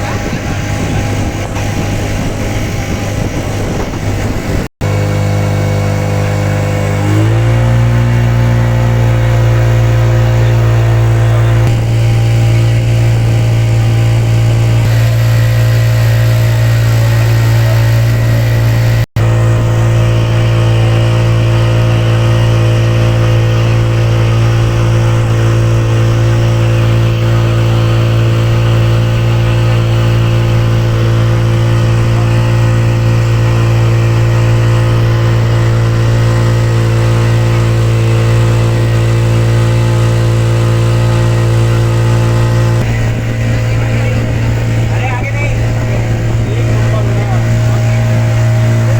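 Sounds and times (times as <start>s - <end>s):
motorboat engine droning: 0.0s - 48.9s.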